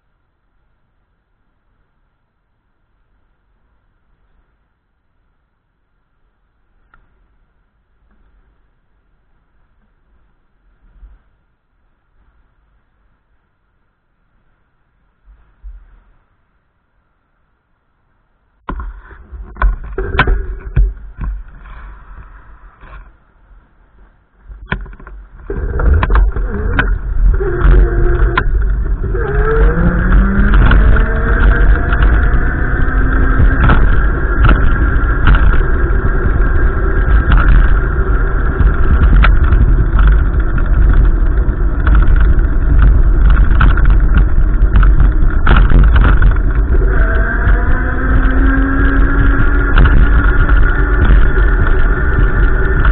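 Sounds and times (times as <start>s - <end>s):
vehicle engine rumble: 6.0s - 52.9s.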